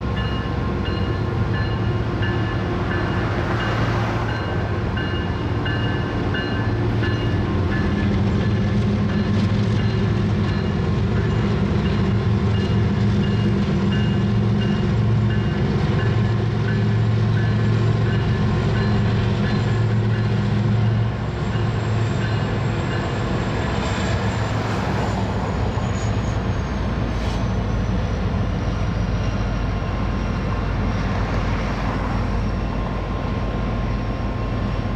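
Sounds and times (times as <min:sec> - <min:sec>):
diesel locomotive engine drone: 0:00.0 - 0:34.9.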